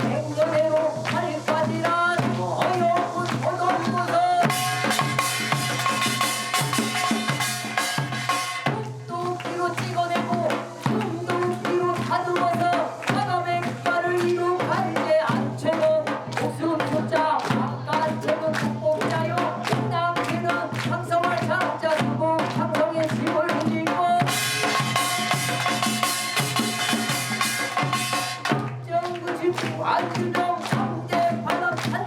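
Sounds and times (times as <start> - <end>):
person singing: 0.0 - 32.0
steady drum beat: 0.0 - 32.0.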